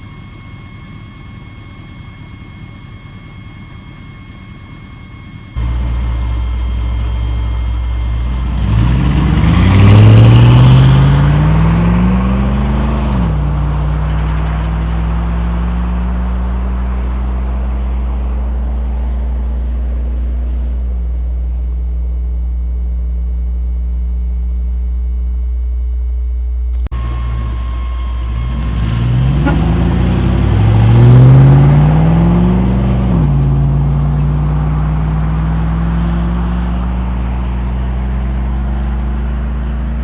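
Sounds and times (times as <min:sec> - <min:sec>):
truck engine accelerating and cruising: 0:00.0 - 0:40.0.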